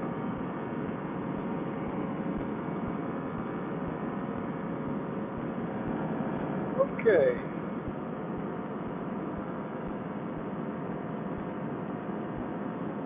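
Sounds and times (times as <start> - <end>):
paramotor engine and propeller drone: 0.0 - 13.0.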